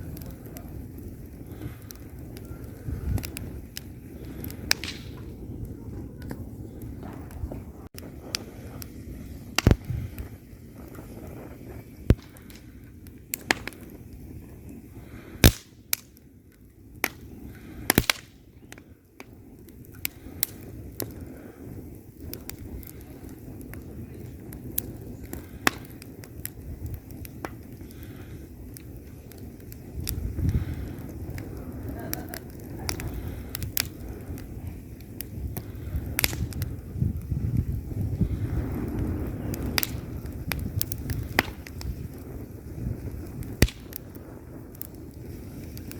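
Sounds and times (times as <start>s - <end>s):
low rumble of flames: 0.0s - 45.9s
wood fire crackling and popping: 0.0s - 45.9s.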